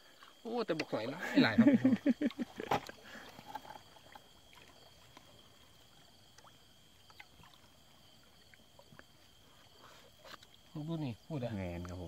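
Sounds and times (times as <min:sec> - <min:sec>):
night insects droning: 0:00.0 - 0:12.0
water sloshing and splashing: 0:00.0 - 0:12.0.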